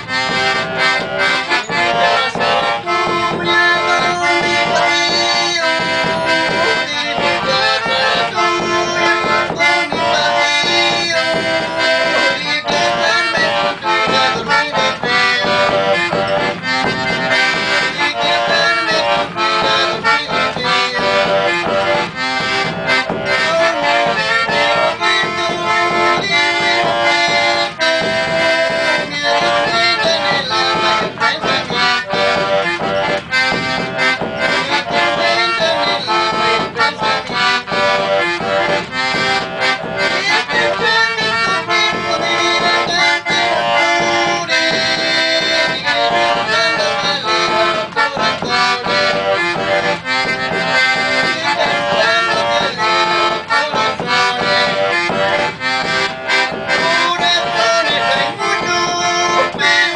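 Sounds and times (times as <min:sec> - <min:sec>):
button accordion folk tune: 0:00.0 - 0:59.9.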